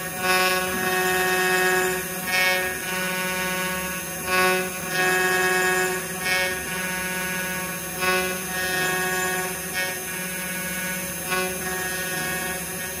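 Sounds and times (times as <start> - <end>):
end mill cutting aluminum: 0.0 - 13.0
router spindle whining: 0.0 - 13.0.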